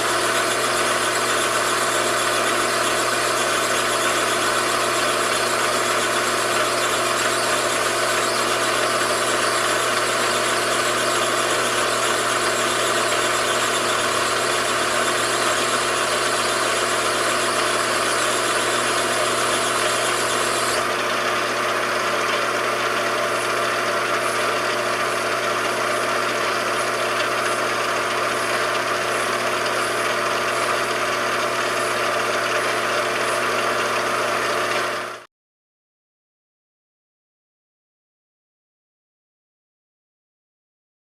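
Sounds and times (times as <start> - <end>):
machine tool humming: 0.0 - 35.3.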